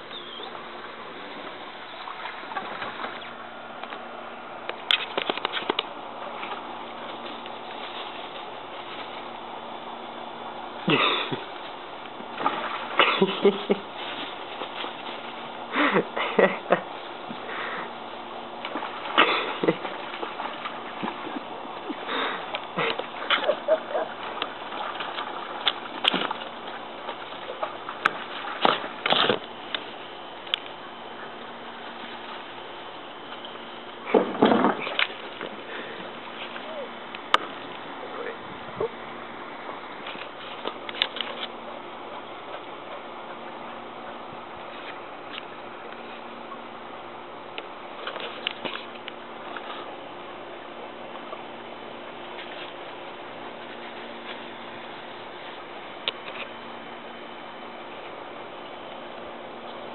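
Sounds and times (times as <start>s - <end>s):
water splashing in a plastic pool: 0.0s - 59.9s.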